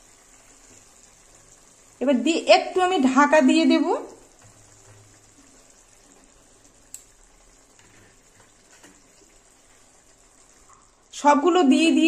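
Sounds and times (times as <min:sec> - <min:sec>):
spice paste sizzling faintly: 0:00.0 - 0:12.0.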